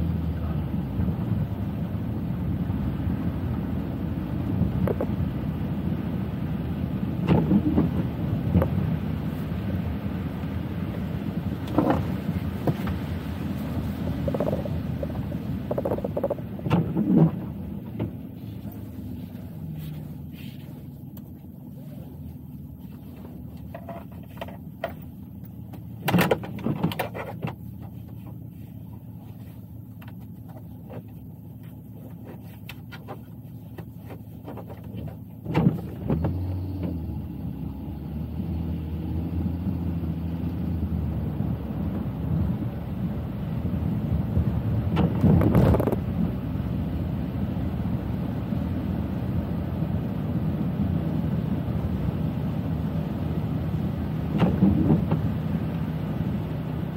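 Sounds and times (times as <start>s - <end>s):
car engine and road rumble: 0.0s - 56.9s.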